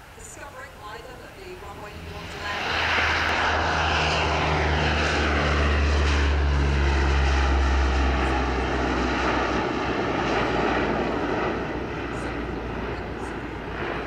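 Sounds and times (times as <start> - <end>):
propeller drone: 0.0 - 14.0
turbine whine falling in pitch: 1.0 - 13.8.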